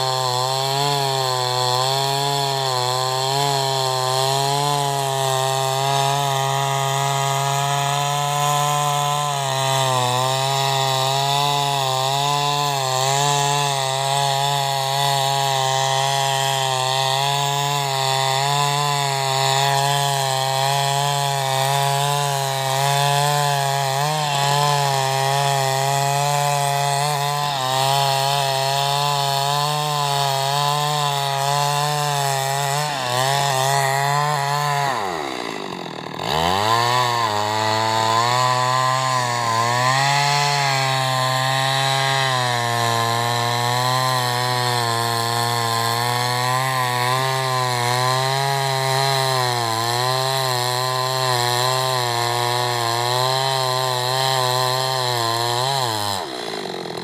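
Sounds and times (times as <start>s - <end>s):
chainsaw cutting a log: 0.0s - 57.0s.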